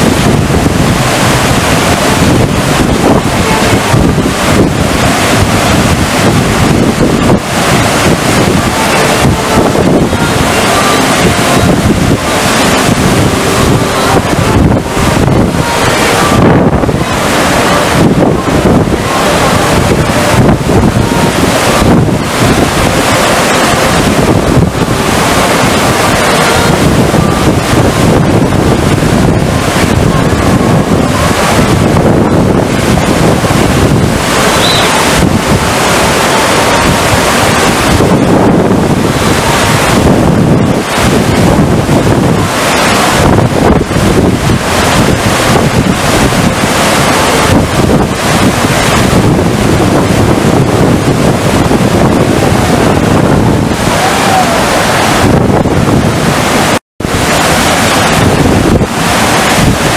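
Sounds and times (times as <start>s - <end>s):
water rushing loudly: 0.0s - 59.9s
wind buffeting microphone: 0.0s - 59.9s.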